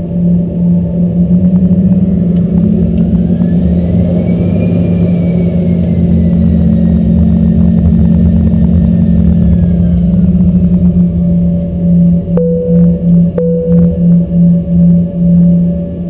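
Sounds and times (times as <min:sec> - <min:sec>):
engine whine: 0:00.0 - 0:16.0
jet engine hum in cabin: 0:00.0 - 0:16.0.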